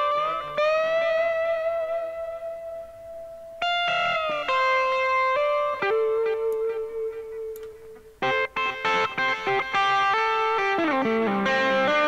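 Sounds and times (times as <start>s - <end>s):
lead guitar solo: 0.0s - 12.0s.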